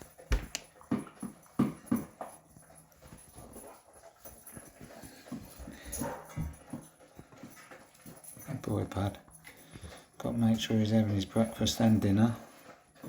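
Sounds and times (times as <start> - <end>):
dog chewing and licking: 0.0 - 13.0.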